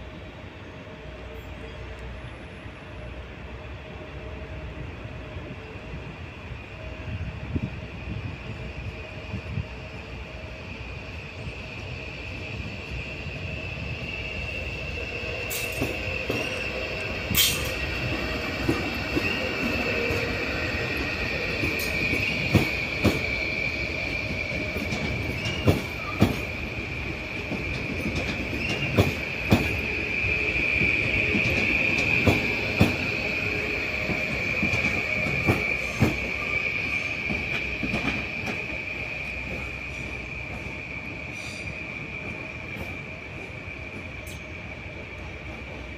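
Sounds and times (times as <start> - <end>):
train wheels squealing: 0.5 - 45.9.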